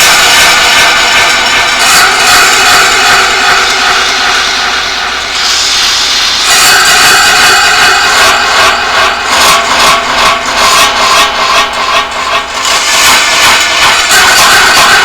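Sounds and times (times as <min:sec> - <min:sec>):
harsh electronic noise with pulsing tones: 0:00.0 - 0:15.0.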